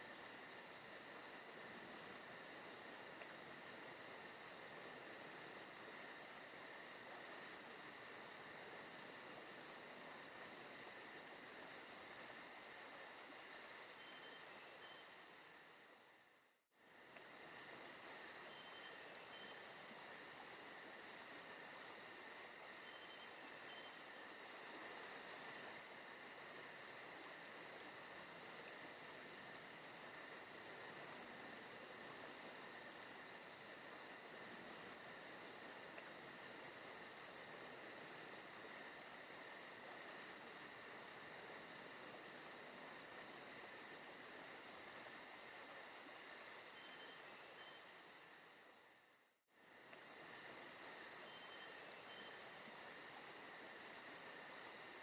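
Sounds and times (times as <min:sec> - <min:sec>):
crickets and insects chirping: 0:00.0 - 0:55.0.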